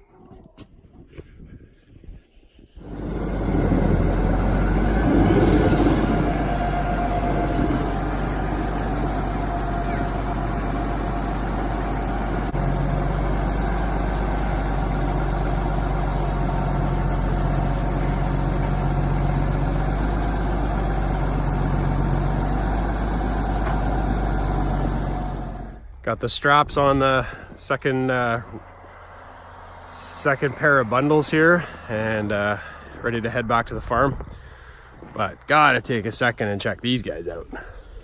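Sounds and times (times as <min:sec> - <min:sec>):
car engine and road noise: 0:02.6 - 0:37.9.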